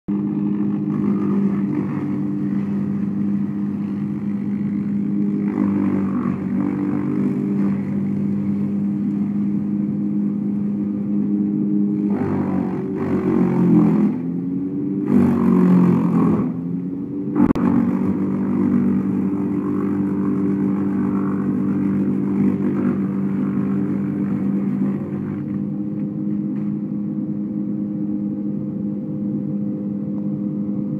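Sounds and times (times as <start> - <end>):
brush chipper engine running: 0.1 - 30.9.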